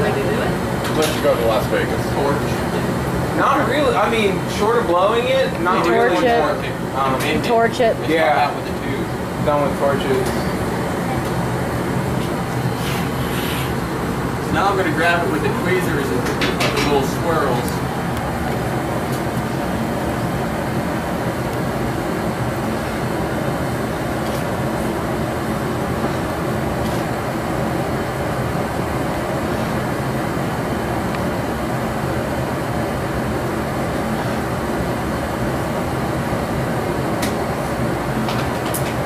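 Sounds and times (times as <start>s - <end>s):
gas furnace and burners rushing: 0.0s - 39.0s.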